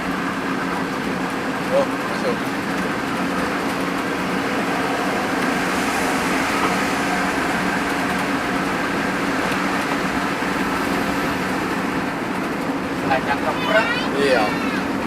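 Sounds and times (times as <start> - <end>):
bus diesel engine hum: 0.0 - 15.0.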